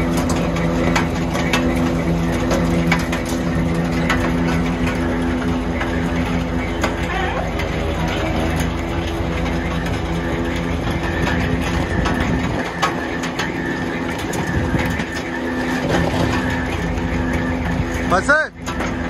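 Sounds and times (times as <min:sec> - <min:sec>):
loader drive humming: 0:00.0 - 0:19.0
steel buckets clattering: 0:00.0 - 0:19.0.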